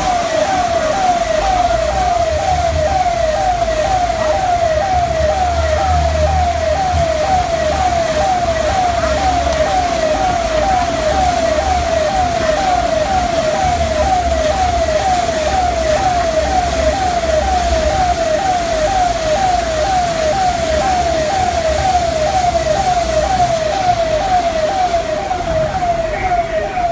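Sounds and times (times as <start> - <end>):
electronic siren wailing: 0.0 - 26.9.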